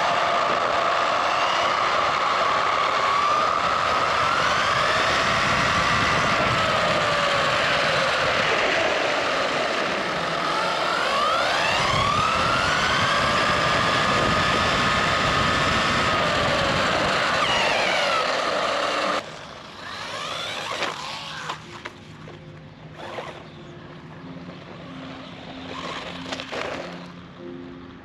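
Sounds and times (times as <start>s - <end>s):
electric motor whining: 0.0s - 21.8s, 24.4s - 27.3s
tyre and wind noise: 0.0s - 23.6s.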